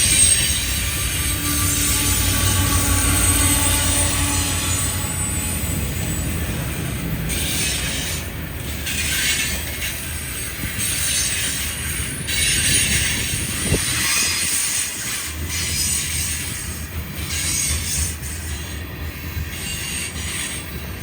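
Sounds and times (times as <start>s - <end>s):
freight train wheels rumbling on rails: 0.0s - 21.0s
hiss of rolling train: 0.0s - 21.0s.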